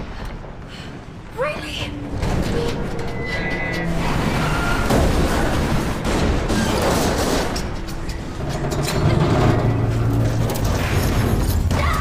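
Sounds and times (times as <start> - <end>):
film action music score: 1.2 - 12.0.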